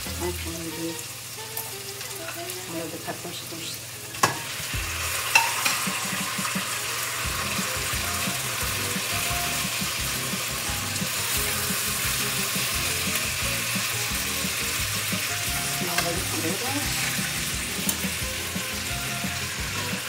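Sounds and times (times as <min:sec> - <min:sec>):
vegetables sizzling in a pan: 0:00.0 - 0:20.0.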